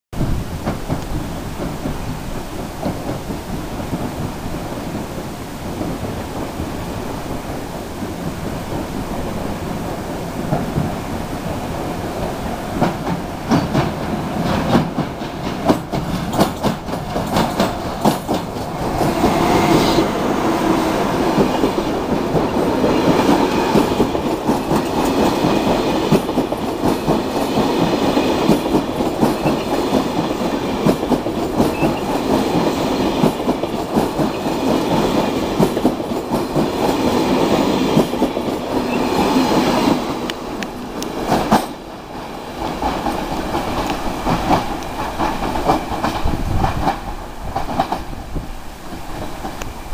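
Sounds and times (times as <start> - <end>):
wheels clicking over rail joints: 0.2 - 19.4, 21.2 - 49.9
passing train: 0.2 - 49.9.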